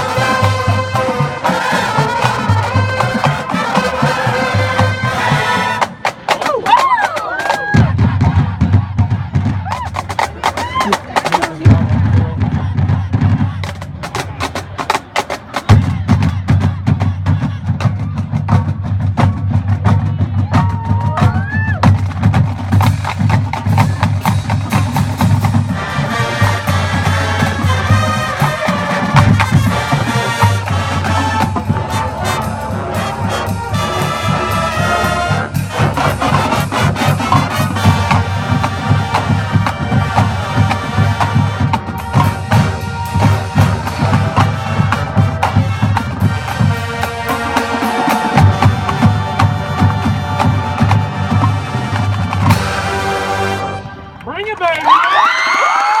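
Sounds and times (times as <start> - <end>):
drum beat: 0.0 - 56.0
marching band playing: 0.0 - 56.0.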